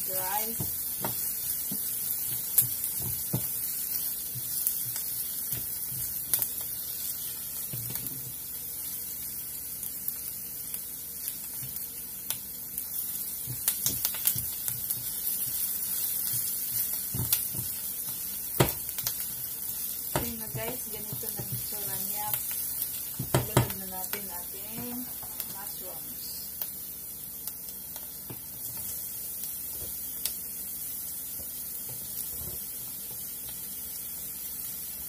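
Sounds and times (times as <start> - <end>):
onion sizzling in oil: 0.0 - 35.0.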